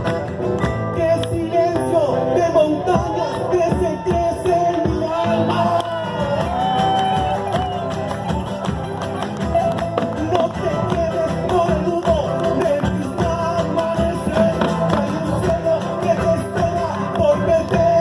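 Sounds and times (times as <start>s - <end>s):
live folk music duo: 0.0s - 18.0s.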